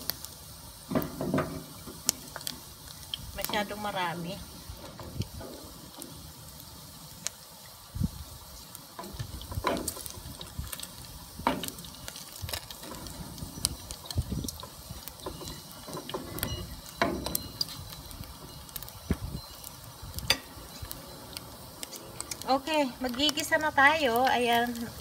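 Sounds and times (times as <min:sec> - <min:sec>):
meat sizzling and popping in fat: 0:00.0 - 0:25.0.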